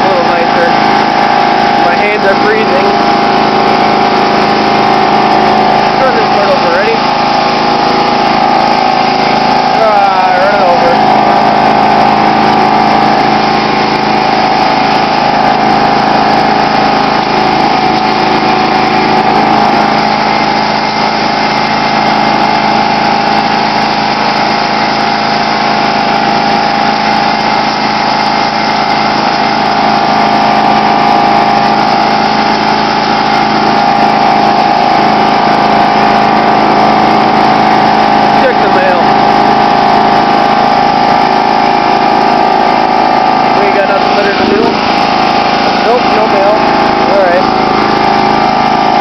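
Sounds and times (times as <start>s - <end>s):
lawn tractor engine running: 0.0s - 49.0s
plow blade pushing through slush: 0.0s - 49.0s.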